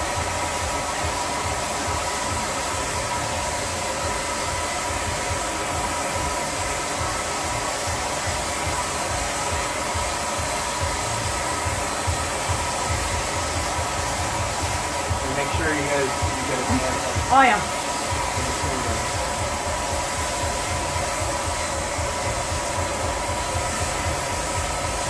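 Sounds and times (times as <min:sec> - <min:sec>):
spray machine turbine whine: 0:00.0 - 0:25.0.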